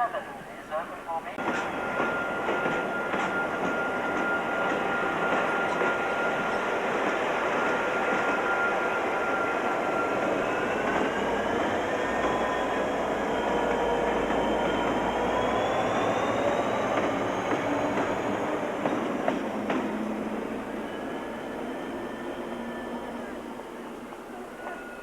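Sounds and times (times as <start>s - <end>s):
train wheels rumbling on rails: 1.4s - 25.0s
train wheels squealing: 1.4s - 25.0s.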